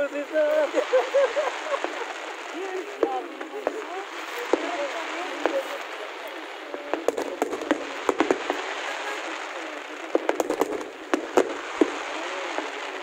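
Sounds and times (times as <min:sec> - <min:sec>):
fireworks cracking and popping: 0:00.0 - 0:13.0.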